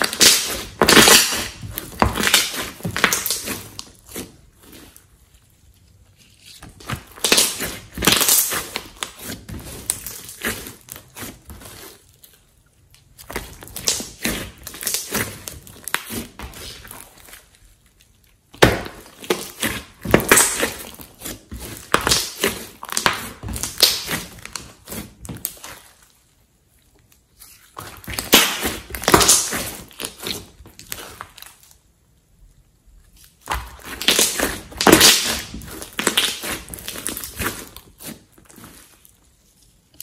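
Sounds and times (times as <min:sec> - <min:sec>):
slime squishing with sticky pops: 0:00.0 - 0:31.9, 0:33.0 - 0:40.0.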